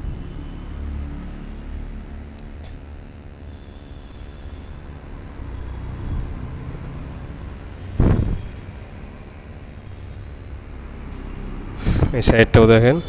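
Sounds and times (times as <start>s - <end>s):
rumble of vehicle traffic: 0.0s - 13.0s.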